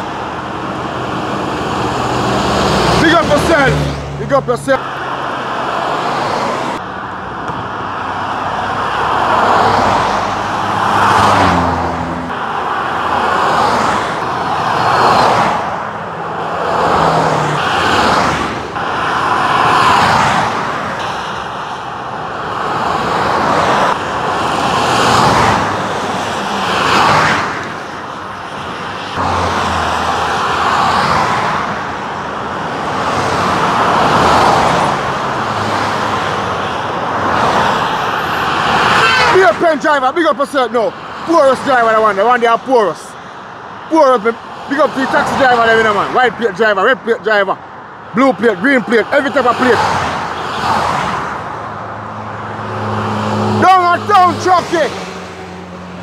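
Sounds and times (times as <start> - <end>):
cars passing at highway speed: 0.0 - 56.0.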